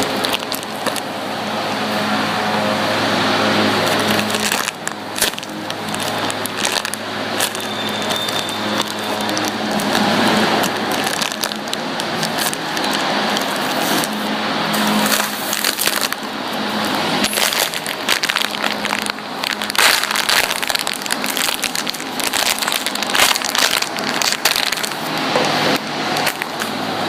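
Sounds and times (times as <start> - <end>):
foam toys squeezed crackling: 0.0 - 1.1, 3.7 - 26.8.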